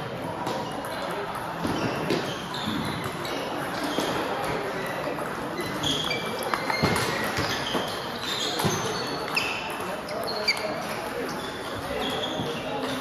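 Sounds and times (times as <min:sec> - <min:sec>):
background chatter: 0:00.0 - 0:13.0.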